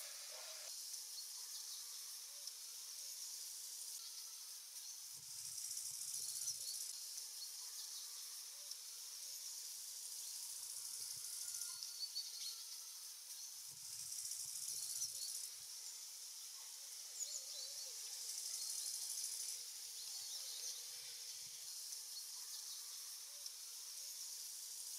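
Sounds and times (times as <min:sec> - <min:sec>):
hissing insect chorus: 0:00.0 - 0:24.9.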